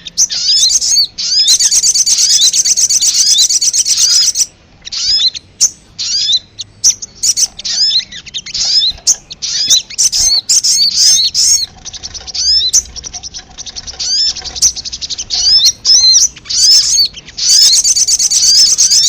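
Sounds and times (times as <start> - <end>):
bird chattering high chirps: 0.0 - 19.0.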